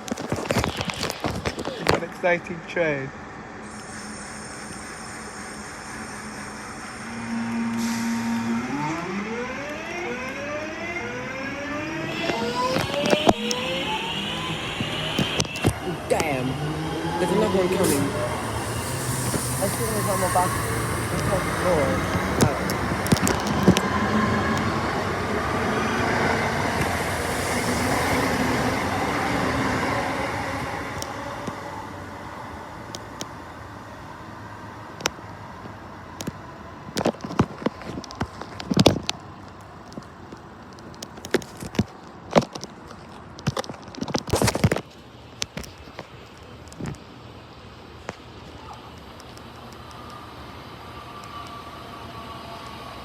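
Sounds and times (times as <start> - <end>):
train traction motors whining: 0.4 - 38.6, 47.3 - 53.0.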